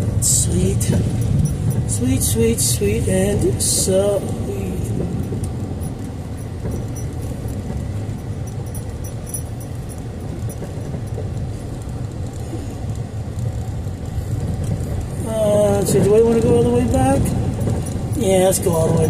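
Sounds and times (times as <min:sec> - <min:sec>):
car engine and road rumble: 0:00.0 - 0:19.0
faint ticks and rattles: 0:00.1 - 0:19.0.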